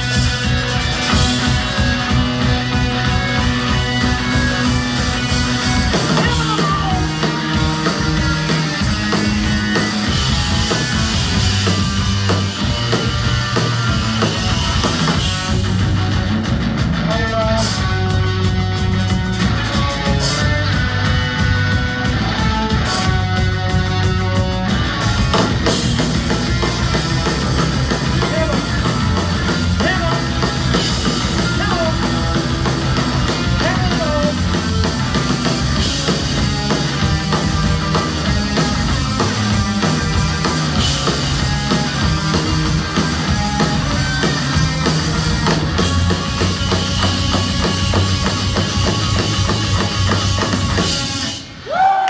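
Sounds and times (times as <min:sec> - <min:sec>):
bass guitar: 0:00.0 - 0:52.0
drum kit: 0:00.0 - 0:52.0
electric guitar: 0:00.0 - 0:52.0.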